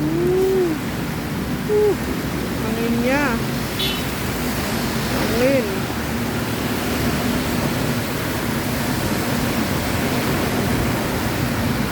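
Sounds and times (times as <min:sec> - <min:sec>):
gusty wind: 0:00.0 - 0:11.9
heavy rain: 0:00.0 - 0:11.9.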